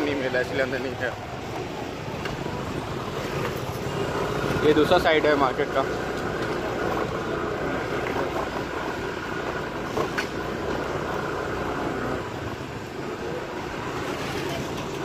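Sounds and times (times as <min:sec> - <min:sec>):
motorbike road and engine noise: 0:00.0 - 0:15.0.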